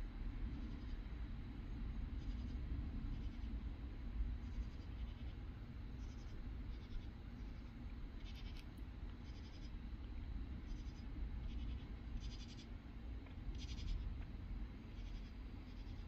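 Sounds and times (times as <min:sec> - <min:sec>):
steady low rumble: 0:00.0 - 0:16.0
night insects rasping: 0:00.3 - 0:16.0.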